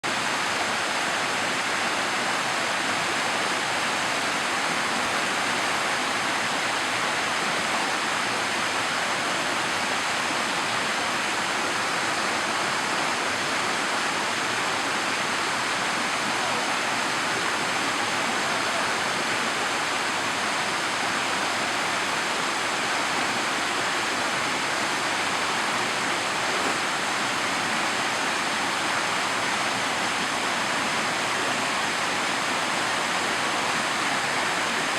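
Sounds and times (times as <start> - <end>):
waterfall rushing over rock: 0.1 - 34.9.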